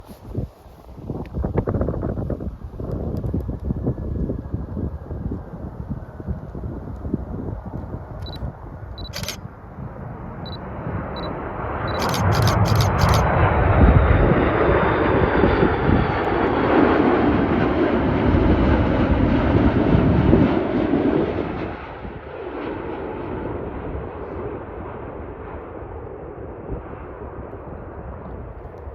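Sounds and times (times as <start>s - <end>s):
jet airliner passing: 3.7s - 28.9s.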